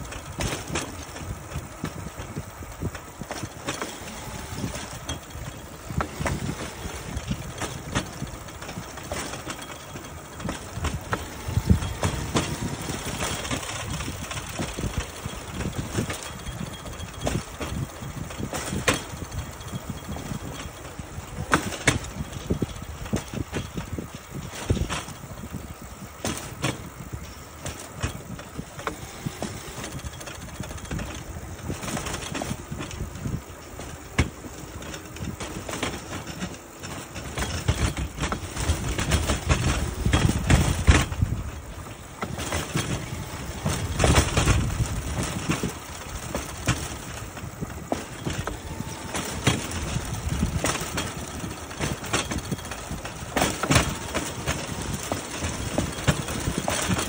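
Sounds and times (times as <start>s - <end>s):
frame rattling: 0.0s - 57.0s
steel wheels rolling on railway track: 0.0s - 57.0s.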